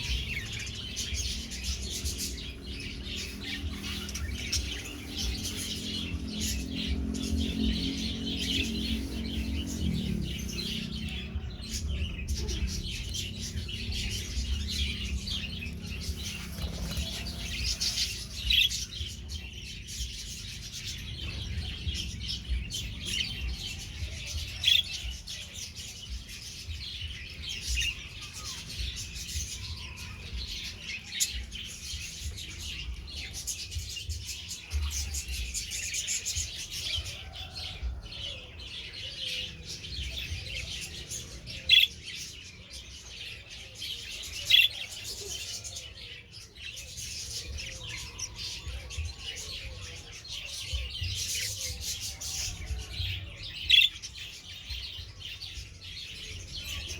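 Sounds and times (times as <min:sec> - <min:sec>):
budgerigars chirping and chattering: 0:00.0 - 0:56.9.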